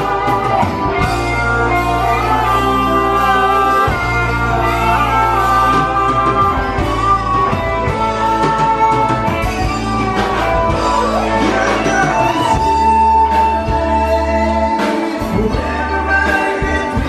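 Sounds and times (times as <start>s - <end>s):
bass line: 0.0s - 17.0s
guitar: 0.0s - 17.0s
person singing: 0.0s - 17.0s.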